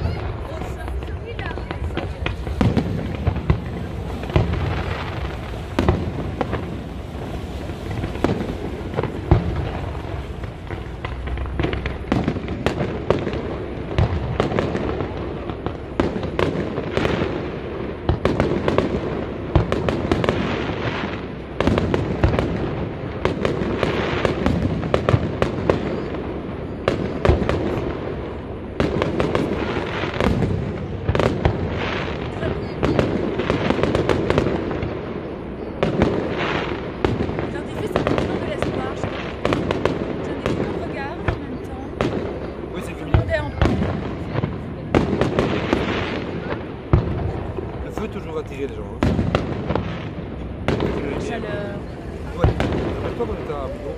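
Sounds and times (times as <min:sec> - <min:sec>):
continuous hiss: 0:00.0 - 0:53.9
fireworks bangs and crackles: 0:00.0 - 0:53.9.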